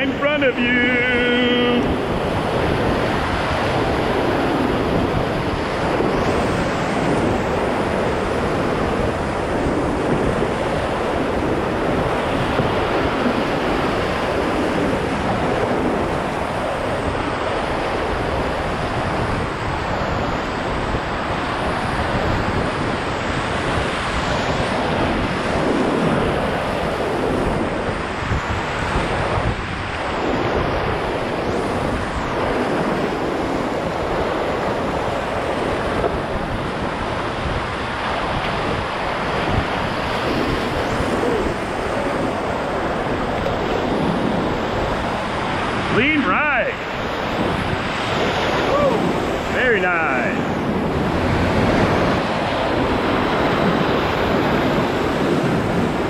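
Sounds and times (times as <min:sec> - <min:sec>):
whitewater rushing: 0:00.0 - 0:56.0
wind noise on microphone: 0:00.0 - 0:56.0.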